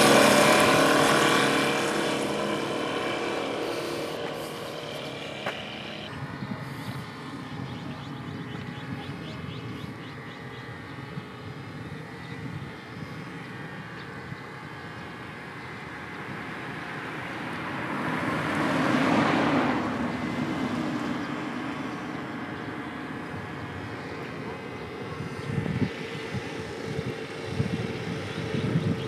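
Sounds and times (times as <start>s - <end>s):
light aircraft propeller engine: 0.0s - 29.0s.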